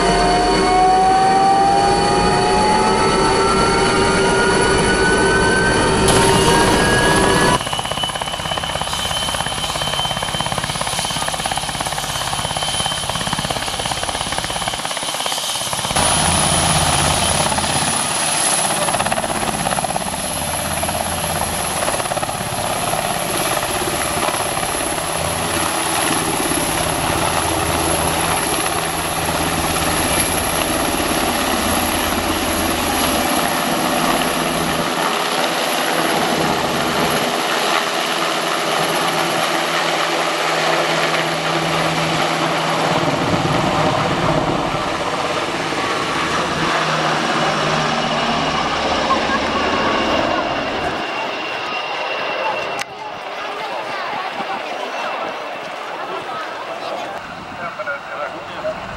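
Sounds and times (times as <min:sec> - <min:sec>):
helicopter rotor noise: 0:00.0 - 0:58.9
high-pitched turbine whine: 0:00.0 - 0:58.9.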